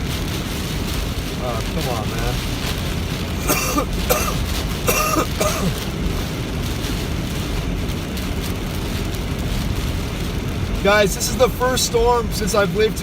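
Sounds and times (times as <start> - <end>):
car driving through heavy rain: 0.0 - 13.0.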